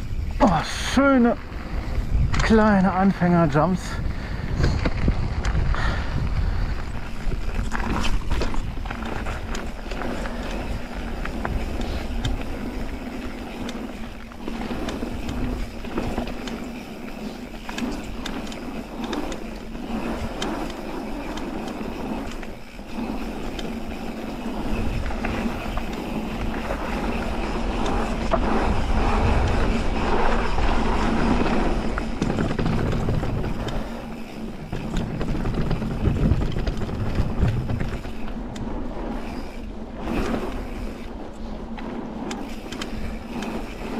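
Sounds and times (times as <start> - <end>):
bike rattling over bumps: 0.0 - 43.9
bike rolling on wooden planks: 0.0 - 43.9
bike tyres on gravel: 0.0 - 43.9.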